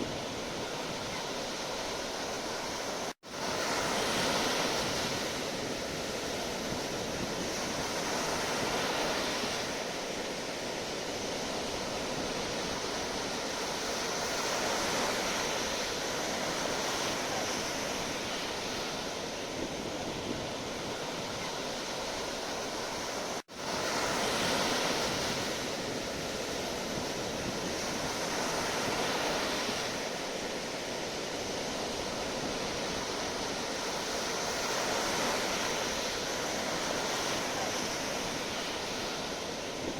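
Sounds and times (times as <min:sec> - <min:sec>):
sea waves surf: 0:00.0 - 0:39.9.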